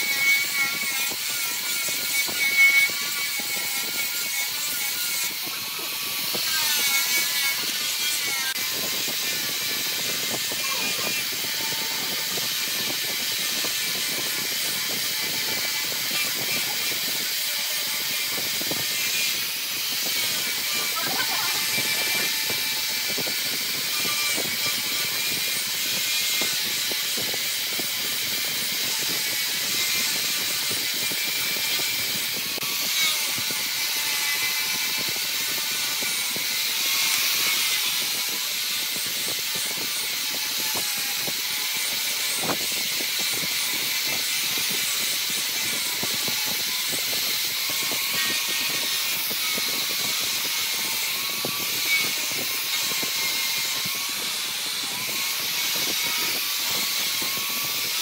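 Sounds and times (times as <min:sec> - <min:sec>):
wood lathe turning tool cutting: 0:00.0 - 0:58.0.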